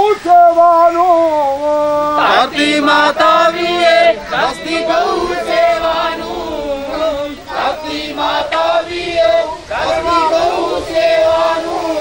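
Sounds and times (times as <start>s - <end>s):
voices chanting devotional refrain: 0.0s - 12.0s.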